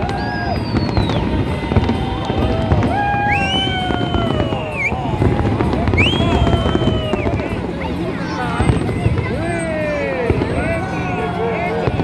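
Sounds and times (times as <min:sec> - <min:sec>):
long held music tones: 0:00.0 - 0:12.0.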